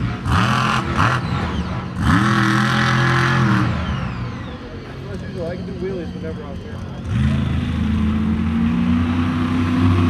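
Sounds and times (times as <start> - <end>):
truck engine revving hard: 0.0 - 6.2, 6.9 - 10.0.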